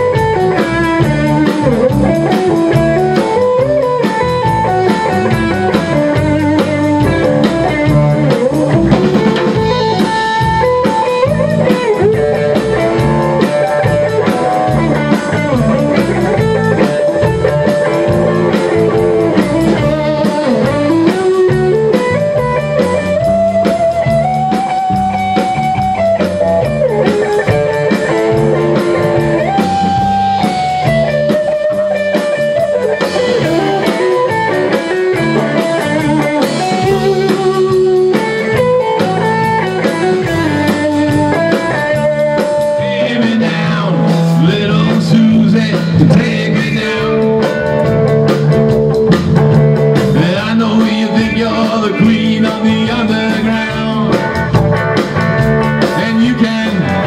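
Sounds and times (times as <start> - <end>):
band playing instrumental: 0.0 - 57.0
electric guitar lead: 0.0 - 57.0.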